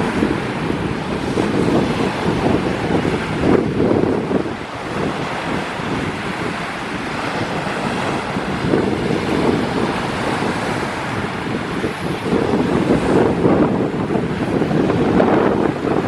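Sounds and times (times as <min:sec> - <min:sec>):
surf washing on shore: 0:00.0 - 0:16.0
wind buffeting microphone: 0:00.0 - 0:16.0.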